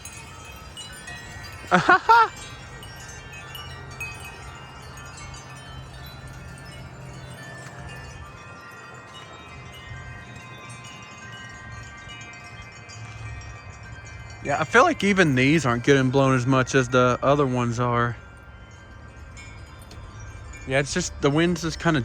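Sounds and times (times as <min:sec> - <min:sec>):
low wind rumble: 0:00.0 - 0:22.0
wind chimes ringing: 0:00.0 - 0:22.0.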